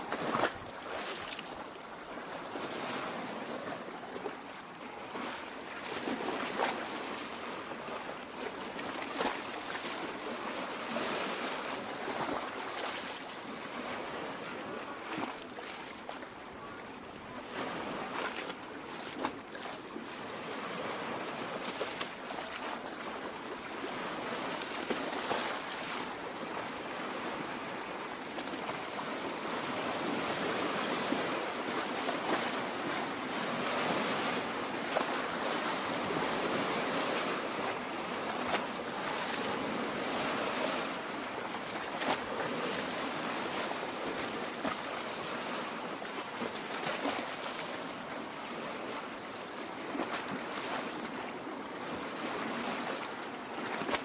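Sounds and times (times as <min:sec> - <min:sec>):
waves lapping at shore: 0:00.0 - 0:54.0.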